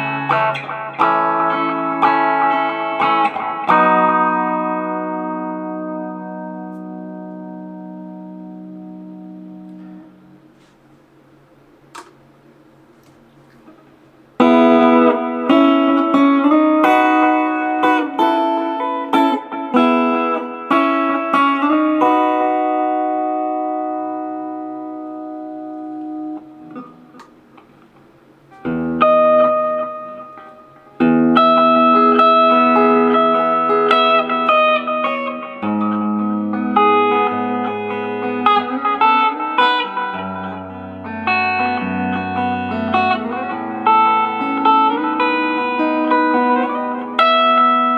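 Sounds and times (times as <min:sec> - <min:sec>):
electric guitar with reverb: 0:00.0 - 0:47.9.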